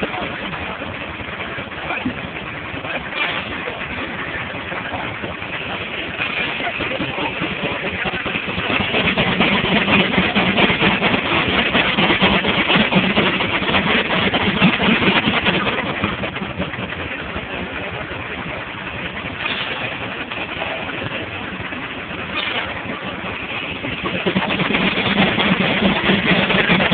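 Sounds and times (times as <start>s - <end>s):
sawmill machinery racket: 0.0s - 26.9s.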